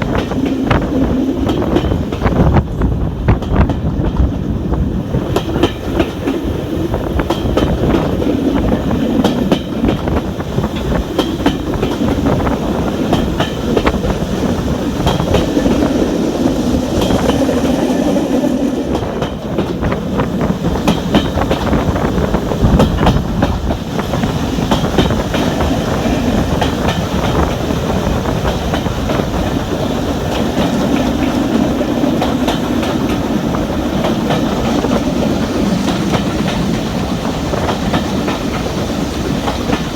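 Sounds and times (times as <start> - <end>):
railway carriage rumbling: 0.0 - 39.9
wheels clicking over rail joints: 0.0 - 39.9.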